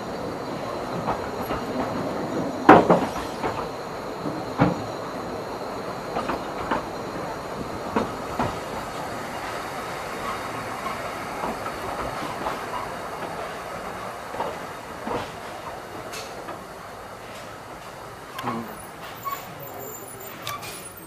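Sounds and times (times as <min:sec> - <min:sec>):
train wheels running on track: 0:00.0 - 0:21.0.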